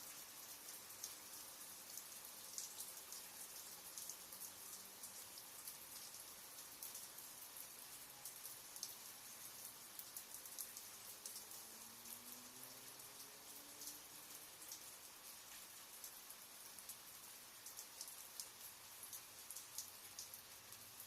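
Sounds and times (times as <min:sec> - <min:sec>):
raindrops pattering: 0:00.0 - 0:21.0.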